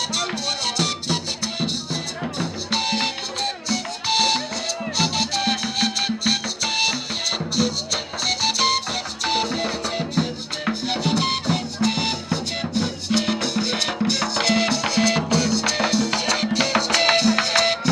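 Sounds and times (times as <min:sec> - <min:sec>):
drums: 0:00.0 - 0:17.9
live band playing: 0:00.0 - 0:17.9
shaken rattle beat: 0:00.0 - 0:17.9.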